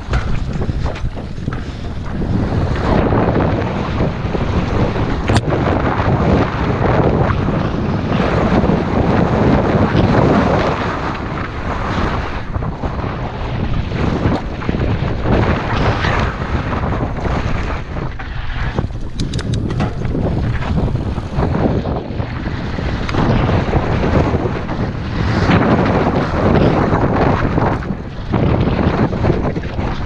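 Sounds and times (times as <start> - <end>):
bike tyres rumbling on dirt trail: 0.0 - 30.0
wind buffeting microphone: 0.0 - 30.0.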